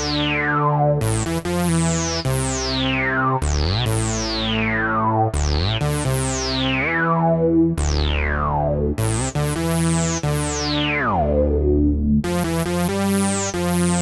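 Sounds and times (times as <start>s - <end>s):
synthesizer bass and chord notes: 0.0s - 14.0s.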